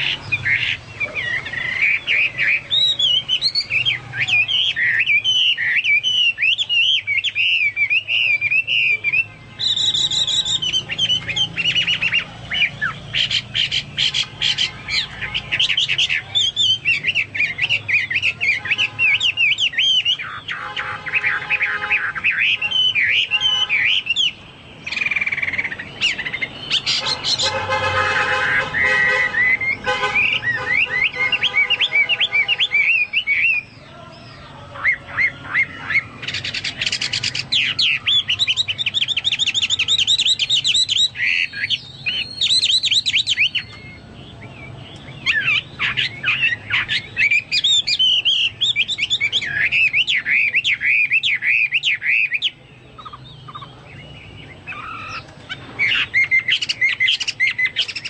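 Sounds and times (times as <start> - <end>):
songbird whistling and warbling: 0.0 - 58.0.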